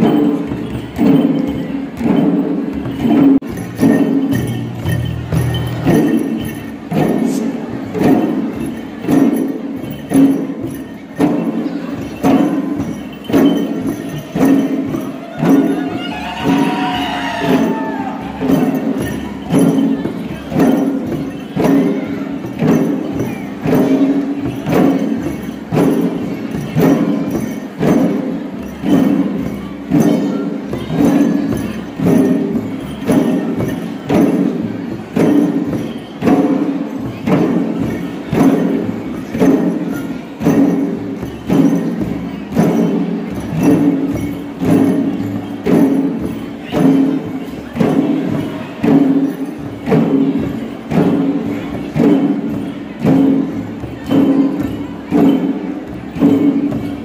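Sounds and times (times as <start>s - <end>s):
barrel drums beaten in dance rhythm: 0.0s - 57.0s.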